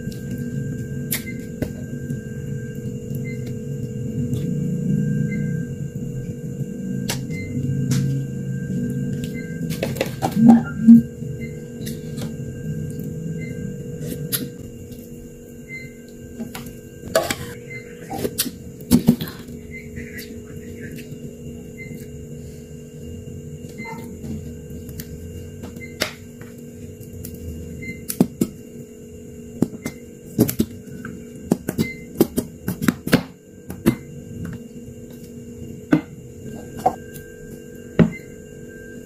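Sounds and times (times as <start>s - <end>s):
steady electrical hum: 0.0s - 39.0s.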